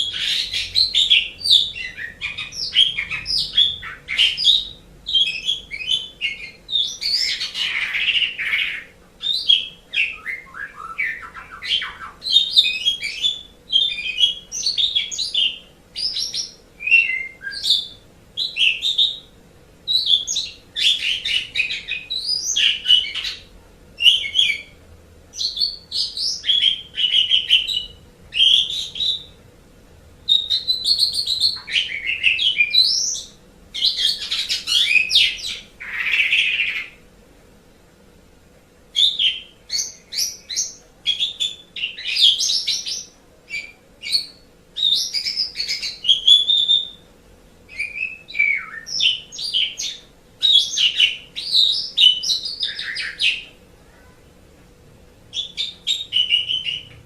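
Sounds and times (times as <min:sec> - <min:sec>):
starling singing: 0:00.0 - 0:29.4, 0:30.3 - 0:37.0, 0:39.0 - 0:47.1, 0:47.7 - 0:53.6, 0:55.3 - 0:57.0.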